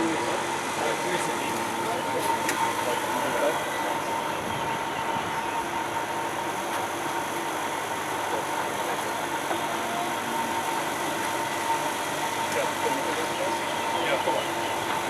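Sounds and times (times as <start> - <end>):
constant whine: 0.0 - 15.0
generator engine running: 0.0 - 15.0.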